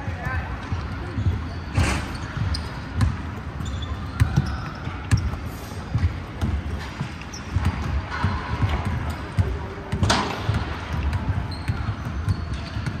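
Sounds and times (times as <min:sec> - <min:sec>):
basketballs bouncing on wooden floor: 0:00.0 - 0:13.0
sneaker squeaks: 0:00.0 - 0:13.0.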